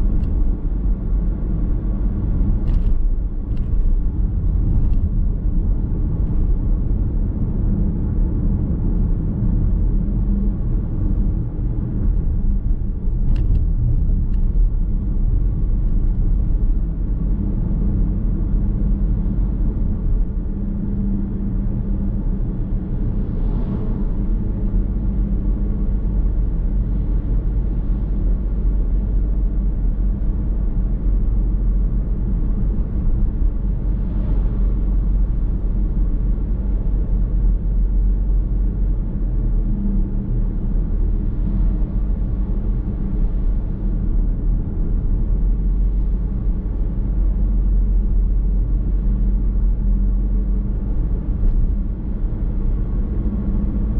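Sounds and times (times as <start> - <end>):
car cabin road noise: 0.0 - 53.9.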